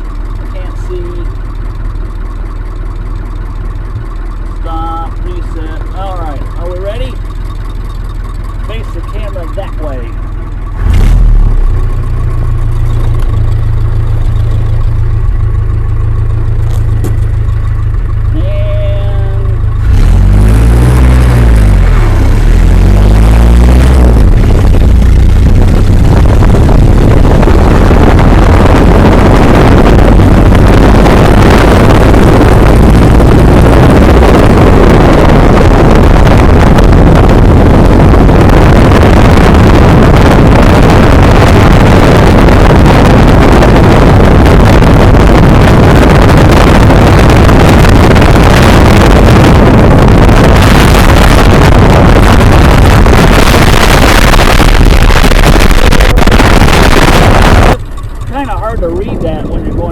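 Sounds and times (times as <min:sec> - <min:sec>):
old car engine running hard: 0:00.0 - 0:59.9
wind noise on microphone: 0:10.7 - 0:59.9.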